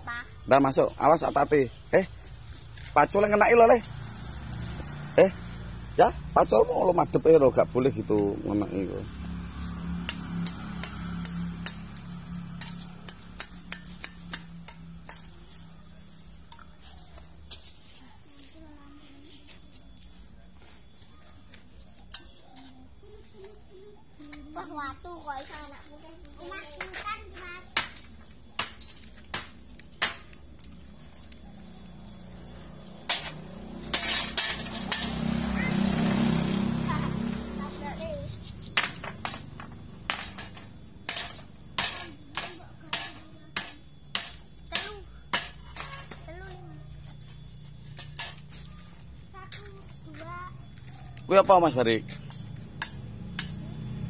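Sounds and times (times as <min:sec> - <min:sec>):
metal tool clinking on stony soil: 0:00.6 - 0:23.0, 0:27.6 - 0:35.7, 0:37.6 - 0:54.0.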